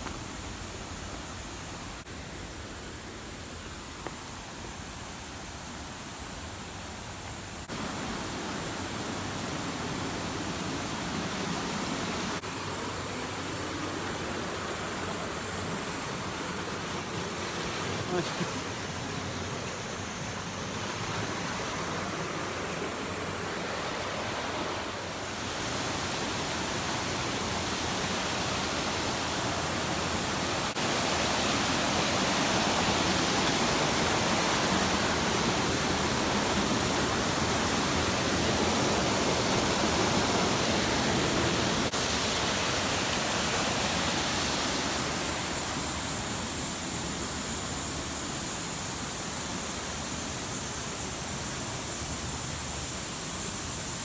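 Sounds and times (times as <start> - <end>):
waterfall rushing: 7.6 - 51.2.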